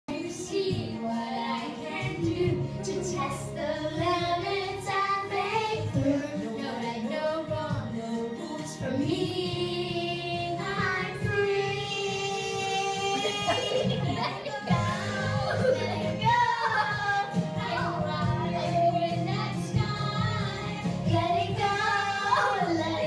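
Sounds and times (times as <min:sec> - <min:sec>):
accompanying music: 0:00.1 - 0:23.0
girls singing into a microphone: 0:00.1 - 0:23.0.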